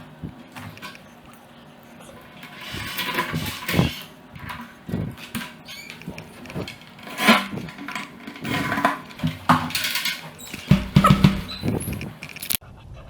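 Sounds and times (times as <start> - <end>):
wood and hand tools clattering: 0.0 - 12.6.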